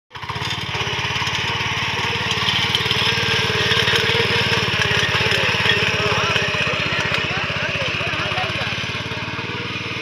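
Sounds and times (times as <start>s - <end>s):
power tiller engine running: 0.1s - 10.0s.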